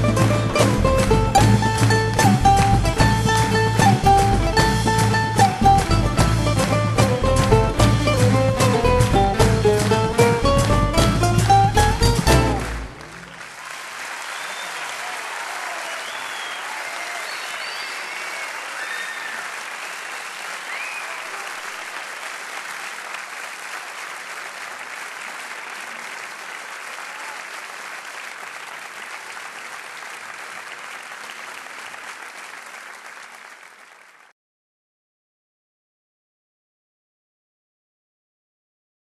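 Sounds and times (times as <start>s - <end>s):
crowd applauding: 0.0s - 34.3s.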